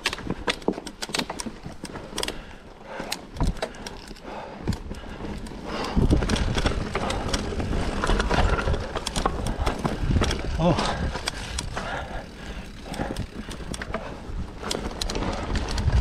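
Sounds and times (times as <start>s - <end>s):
bike rattling clicks and knocks: 0.0s - 16.0s
bike tyres over dirt and rocks: 0.0s - 16.0s.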